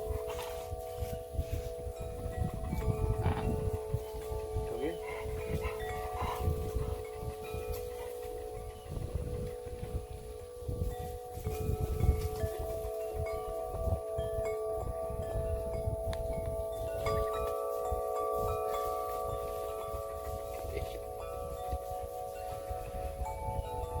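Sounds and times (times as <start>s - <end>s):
wind chimes ringing: 0.0s - 24.0s.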